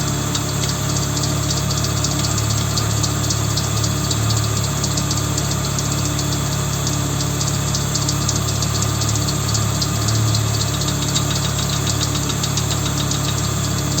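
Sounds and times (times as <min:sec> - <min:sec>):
car engine running: 0:00.0 - 0:14.0
engine knocking tick: 0:00.0 - 0:14.0.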